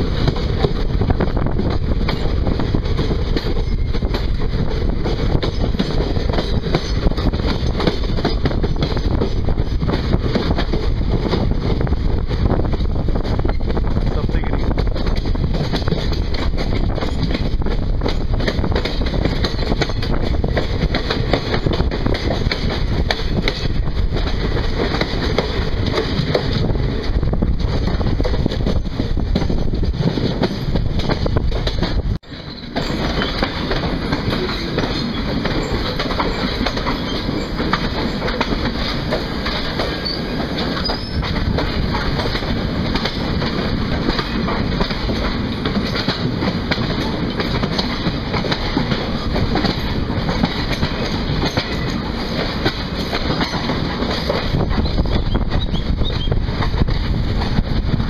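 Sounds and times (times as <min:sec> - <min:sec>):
wind buffeting the microphone: 0:00.0 - 0:32.2, 0:32.9 - 0:58.0
moving train noise: 0:00.0 - 0:58.0
wheel clatter over rail joints: 0:00.0 - 0:58.0.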